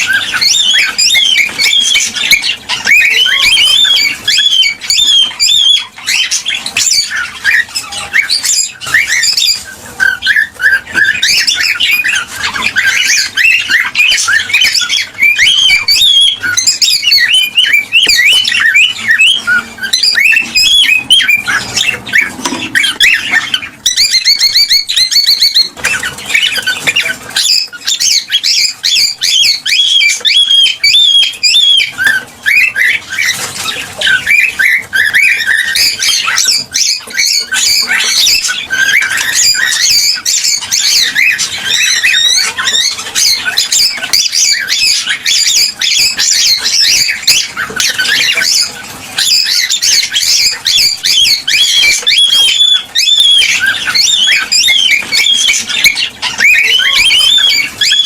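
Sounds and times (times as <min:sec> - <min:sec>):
cockatiels chirping and whistling: 0:00.0 - 0:58.0.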